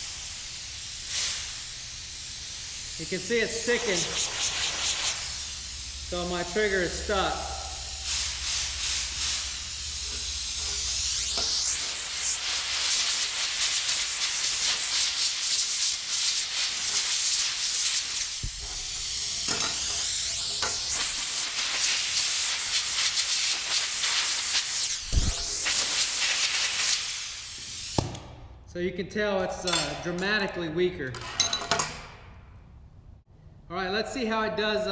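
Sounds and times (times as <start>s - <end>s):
air blow gun hissing: 0.0s - 28.2s.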